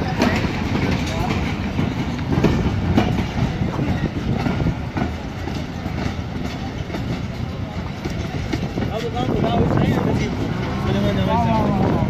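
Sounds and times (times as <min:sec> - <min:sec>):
crowd voices: 0:00.0 - 0:12.0
train wheels clacking over rail joints: 0:00.0 - 0:12.0.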